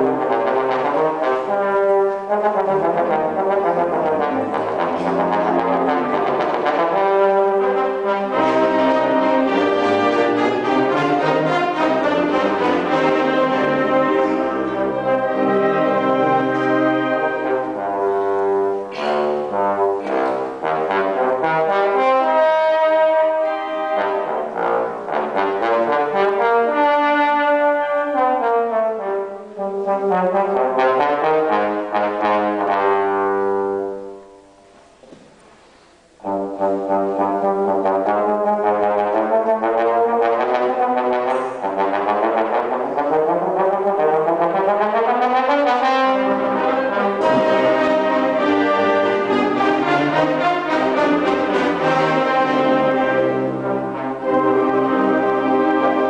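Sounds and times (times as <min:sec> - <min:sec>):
bass trombone solo: 0:00.0 - 0:34.6, 0:36.2 - 0:56.0
concert band playing: 0:00.0 - 0:56.0.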